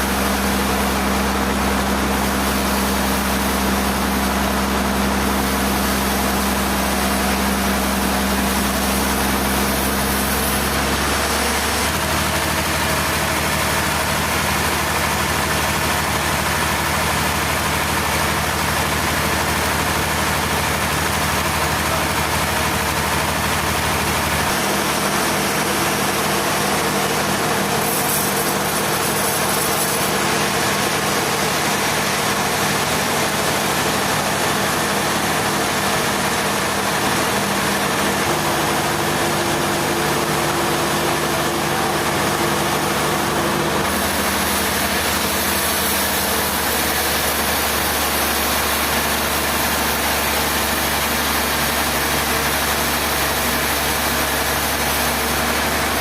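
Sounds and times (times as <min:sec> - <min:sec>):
sawmill engine hum: 0:00.0 - 0:56.0.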